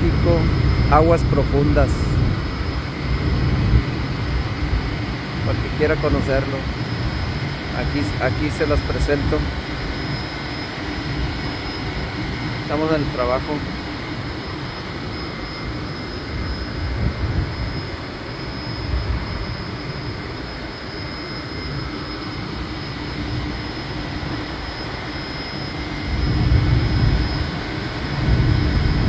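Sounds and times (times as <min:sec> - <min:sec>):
faint machinery tones: 0:00.0 - 0:29.0
gas flare roaring: 0:00.0 - 0:29.0.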